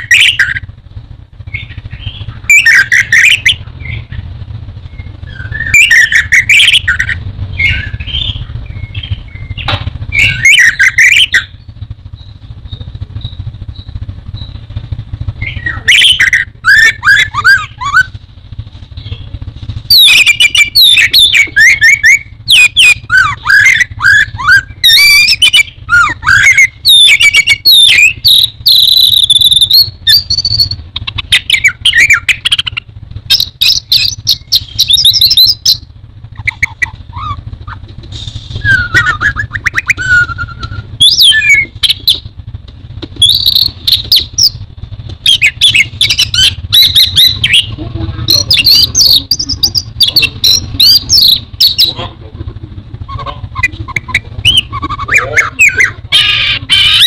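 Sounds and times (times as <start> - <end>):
bird singing whistled trills: 0.0 - 0.7, 1.4 - 18.1, 19.9 - 37.8, 38.6 - 42.3, 43.2 - 44.6, 45.2 - 52.0, 53.1 - 56.3.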